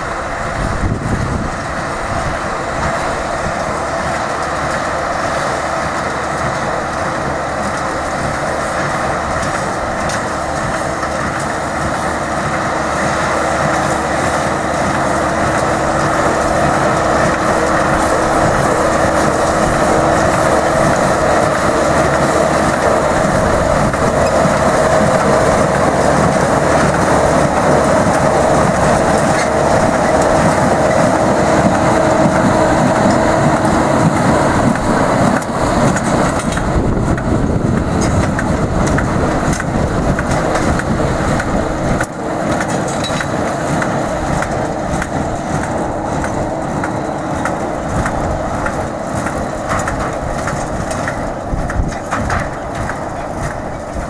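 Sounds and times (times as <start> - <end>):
hay baler working: 0.0 - 54.0
tractor running: 0.0 - 54.0.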